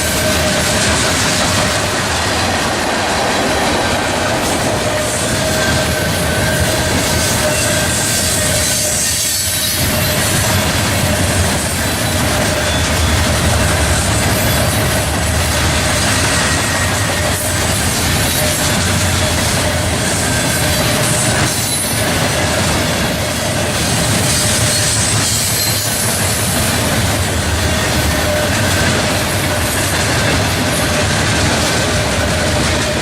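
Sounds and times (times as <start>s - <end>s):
steel wheels rumbling on rail: 0.0s - 33.0s
wheel squeal: 4.4s - 27.0s, 27.6s - 33.0s.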